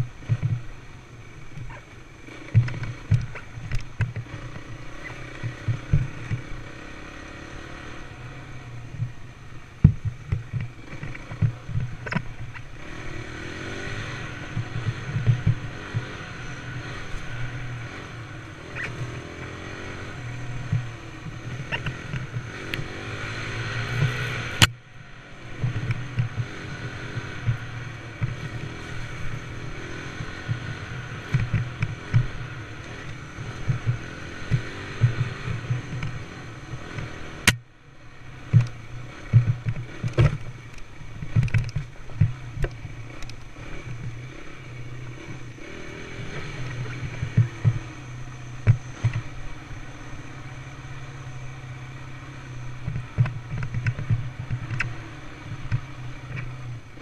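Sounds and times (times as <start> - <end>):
dirt bike engine running: 0.0 - 57.0
knocks and rattles from bike: 0.0 - 57.0.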